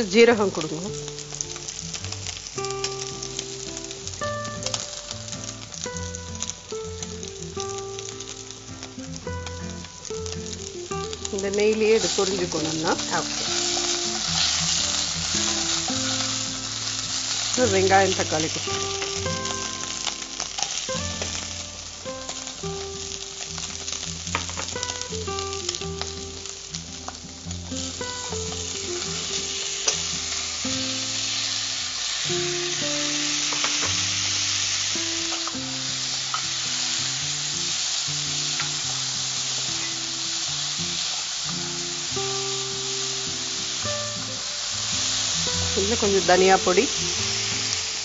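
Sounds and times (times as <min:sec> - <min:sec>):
vegetables sizzling in a pan: 0:00.0 - 0:48.0.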